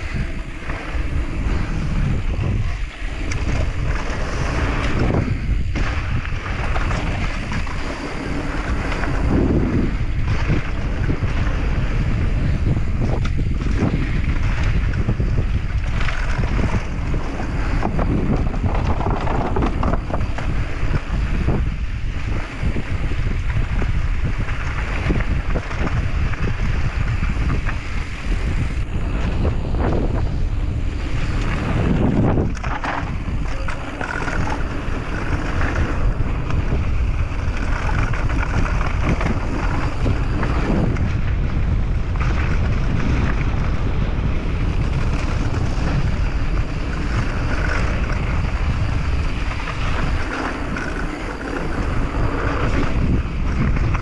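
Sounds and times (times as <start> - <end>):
tyres rolling over dirt: 0.0 - 54.0
wind buffeting microphone: 0.0 - 54.0.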